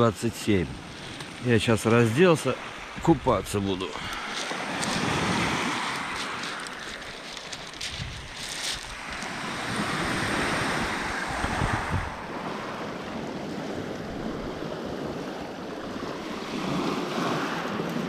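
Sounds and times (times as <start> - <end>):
small waves on pebble beach: 0.4 - 18.0
wind gusting on microphone: 2.7 - 18.0.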